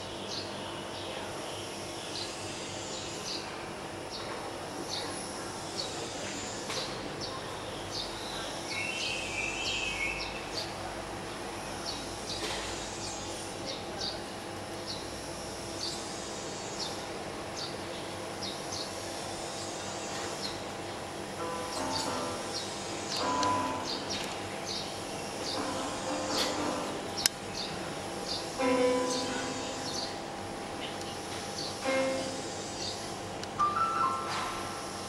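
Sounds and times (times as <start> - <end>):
faint hum: 0.0 - 35.0.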